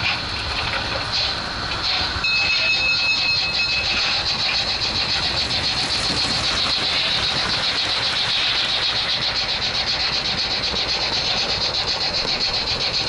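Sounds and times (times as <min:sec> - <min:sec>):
model train wheels and motor clattering: 0:00.0 - 0:13.0.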